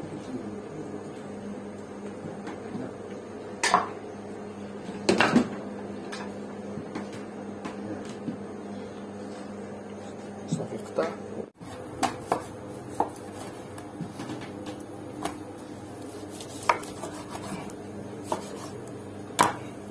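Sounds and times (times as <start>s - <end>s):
steady electrical hum: 0.0s - 19.9s.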